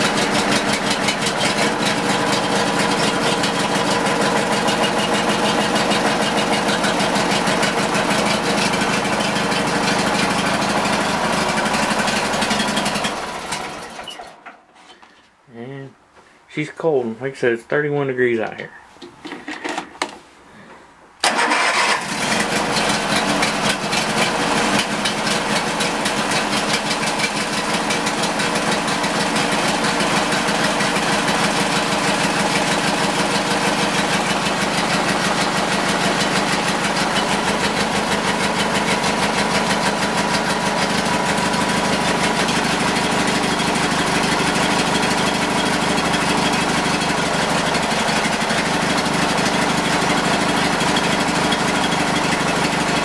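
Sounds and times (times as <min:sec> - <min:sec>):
small engine running: 0:00.0 - 0:14.0, 0:21.3 - 0:53.0.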